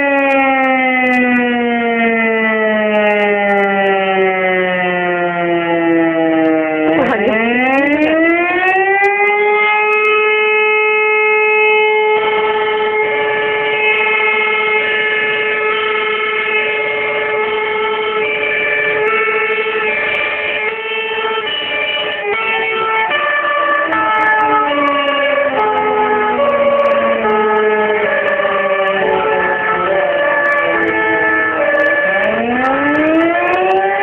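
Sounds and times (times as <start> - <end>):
fire engine running: 0.0 - 34.0
fire station alarm siren: 0.0 - 34.0.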